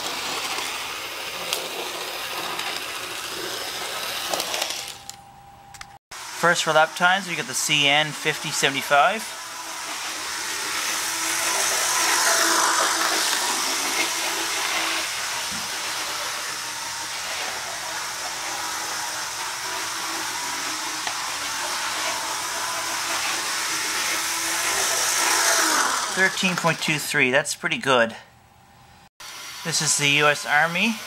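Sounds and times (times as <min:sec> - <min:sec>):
model train whirring: 0:00.0 - 0:05.2, 0:06.2 - 0:27.2, 0:29.2 - 0:31.0.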